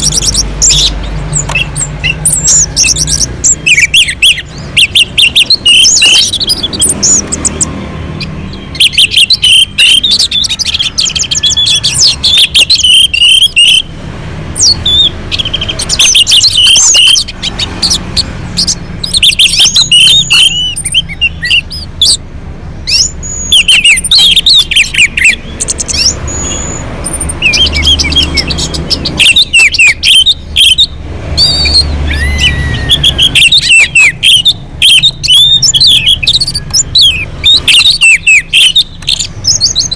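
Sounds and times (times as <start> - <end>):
thrush singing whistled phrases: 0.0 - 13.9, 14.6 - 22.2, 22.8 - 39.9.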